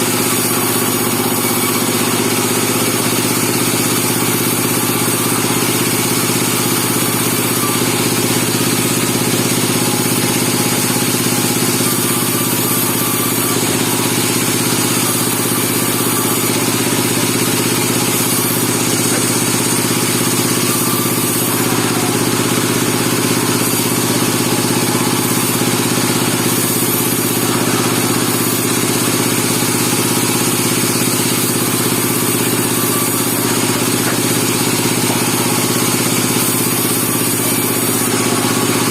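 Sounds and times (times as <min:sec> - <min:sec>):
bandsaw sawmill engine running: 0:00.0 - 0:38.9.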